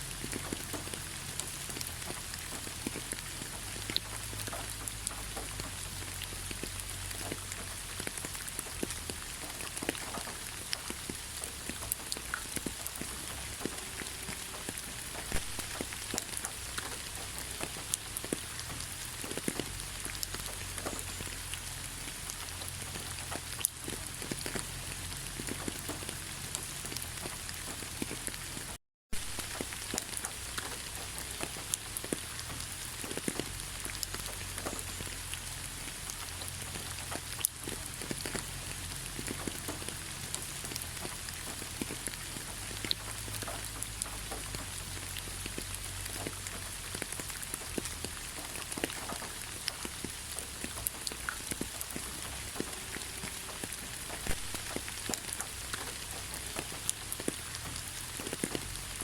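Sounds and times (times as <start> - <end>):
rain falling in forest: 0.0 - 59.0
raindrops ticking: 0.0 - 59.0.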